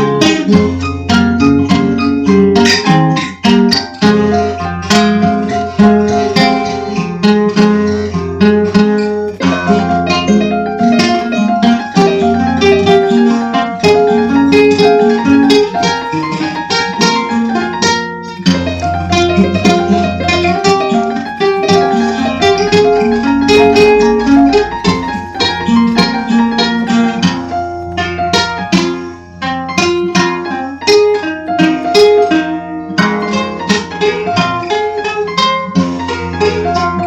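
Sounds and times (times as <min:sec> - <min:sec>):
acoustic guitar picking: 0:00.0 - 0:37.0.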